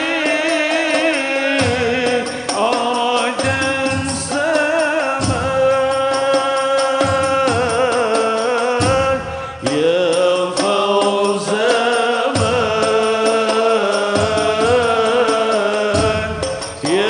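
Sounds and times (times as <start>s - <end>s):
hand drums: 0.0s - 17.0s
man singing with vibrato: 0.0s - 17.0s.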